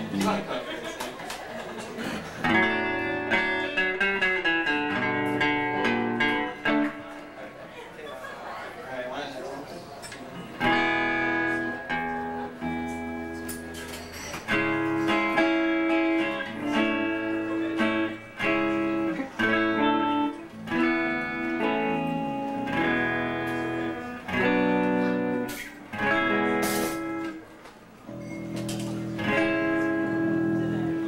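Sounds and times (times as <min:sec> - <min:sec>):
guitar strumming chords: 0:02.2 - 0:07.4, 0:10.6 - 0:27.5, 0:28.1 - 0:31.0.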